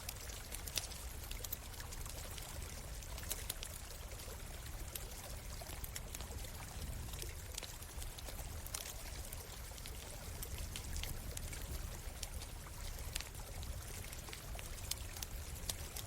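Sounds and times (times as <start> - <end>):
campfire crackling: 0.0 - 16.0
stream water running: 0.0 - 16.0.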